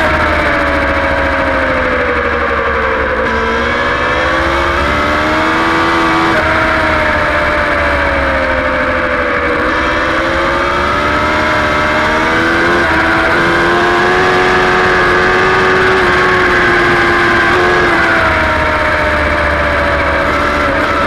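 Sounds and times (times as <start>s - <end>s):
motorbike engine at high revs: 0.0s - 21.0s.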